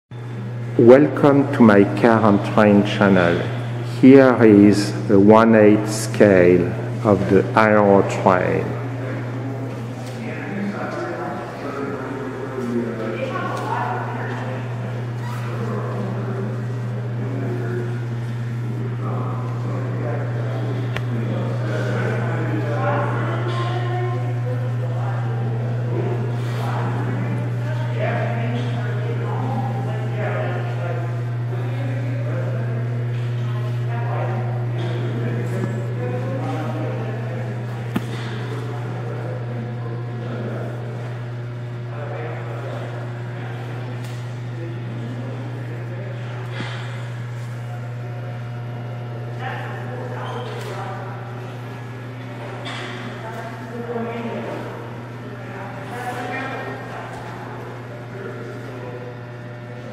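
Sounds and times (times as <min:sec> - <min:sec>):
faint indistinct voices: 0:00.1 - 0:59.9
steady low hum: 0:00.1 - 0:59.9.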